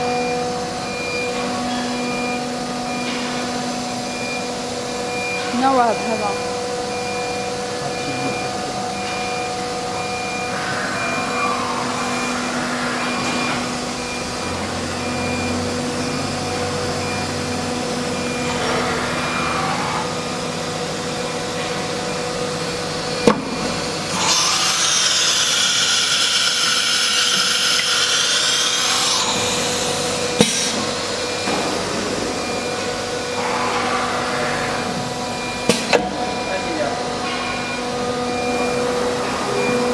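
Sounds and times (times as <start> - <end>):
machine hum: 0.0 - 39.9
short machine whines: 0.0 - 39.9.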